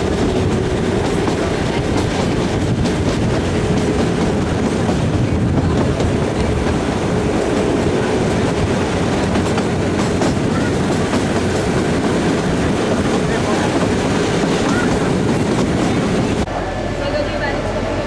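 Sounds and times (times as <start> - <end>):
train wheels clattering on rails: 0.0 - 16.5.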